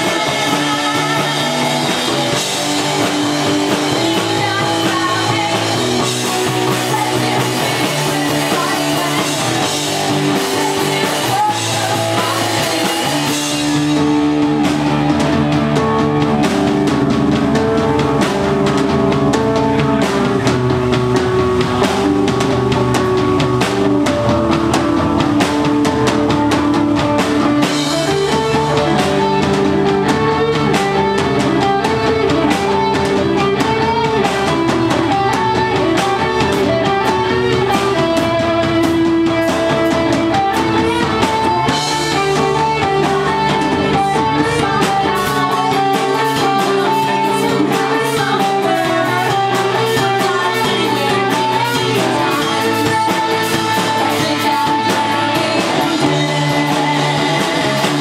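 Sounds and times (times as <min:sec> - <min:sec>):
drum kit: 0:00.0 - 0:58.0
electric bass guitar: 0:00.0 - 0:58.0
electric guitar: 0:00.0 - 0:58.0.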